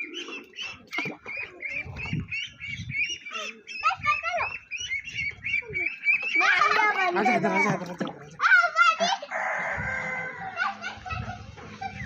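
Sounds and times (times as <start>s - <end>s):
ducks calling: 0.0s - 11.0s.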